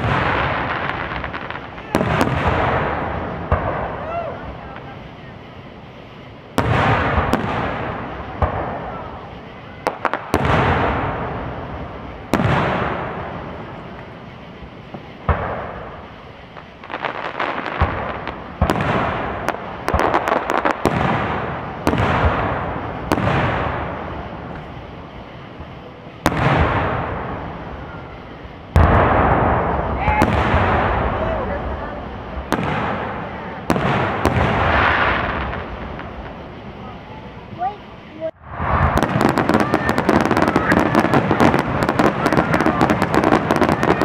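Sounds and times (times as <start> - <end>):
crackling firework pops: 0.0 - 5.0, 6.5 - 31.6, 32.3 - 36.9, 38.4 - 44.0
fireworks bursting with echo: 0.0 - 44.0.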